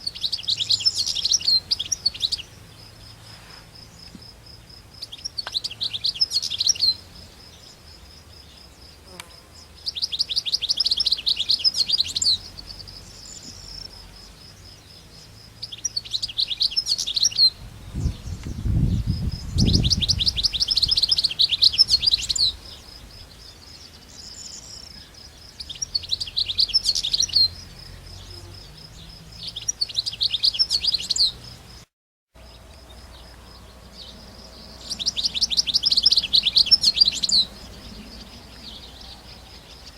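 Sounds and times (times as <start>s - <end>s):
bird twittering trills: 0.0s - 3.2s, 5.0s - 31.8s, 32.4s - 39.9s.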